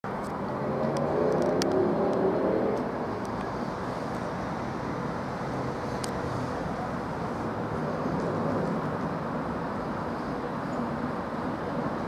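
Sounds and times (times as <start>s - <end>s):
rumble of vehicles: 0.0s - 12.0s
passing vehicle hum: 0.1s - 12.0s
distant electric train approaching: 0.4s - 12.0s.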